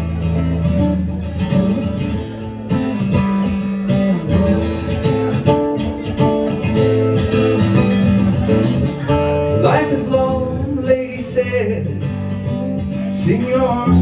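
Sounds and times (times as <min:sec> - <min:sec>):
bass line: 0:00.0 - 0:14.0
strummed guitar chords: 0:00.0 - 0:14.0.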